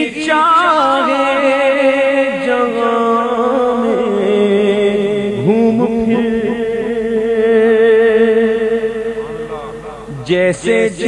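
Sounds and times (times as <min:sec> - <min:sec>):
held vocal drone: 0:00.0 - 0:11.0.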